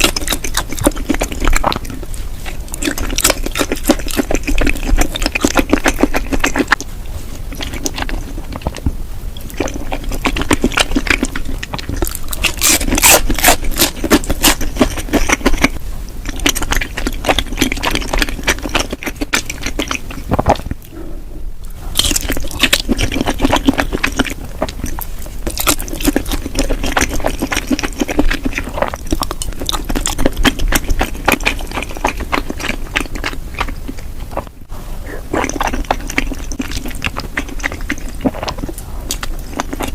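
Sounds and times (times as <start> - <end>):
mouth clicks and crackles: 0.0 - 21.0, 21.6 - 39.9
wet chewing: 0.0 - 39.9.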